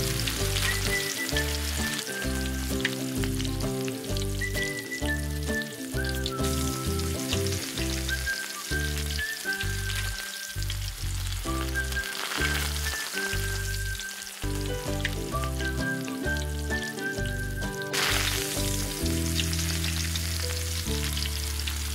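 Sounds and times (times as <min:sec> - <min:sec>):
background music: 0:00.0 - 0:21.9
chicken sizzling in a pan: 0:00.0 - 0:21.9.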